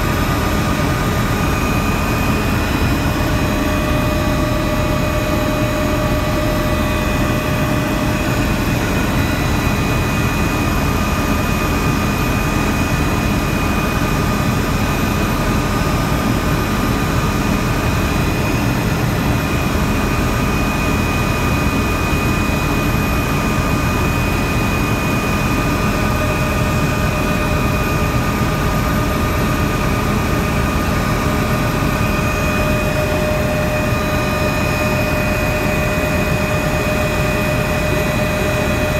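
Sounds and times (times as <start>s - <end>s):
helicopter engine and rotor rumble: 0.0s - 38.9s.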